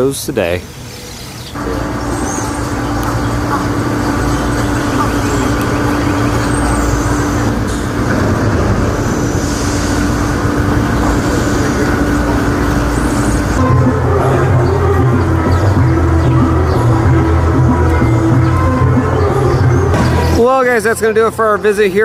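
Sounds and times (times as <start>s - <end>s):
vehicle engine rumbling: 1.5s - 22.0s.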